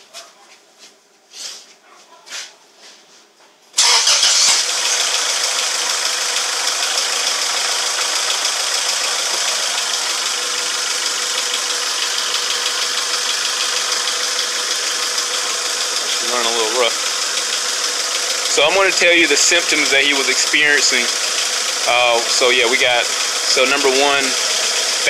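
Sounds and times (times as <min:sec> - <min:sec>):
car engine starting and idling: 0:03.8 - 0:25.0.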